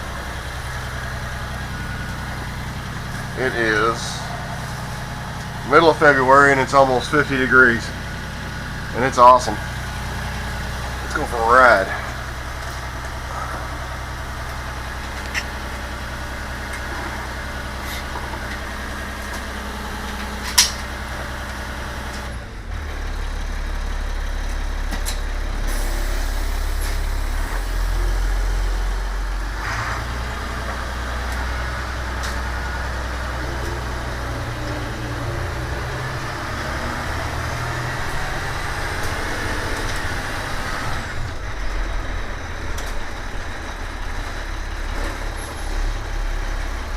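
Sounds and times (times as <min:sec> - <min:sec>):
diesel bus engine: 0:00.0 - 0:46.9.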